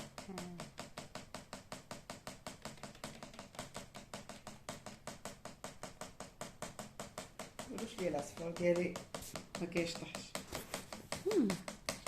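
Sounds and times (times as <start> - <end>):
rapid clicking: 0.0 - 12.0.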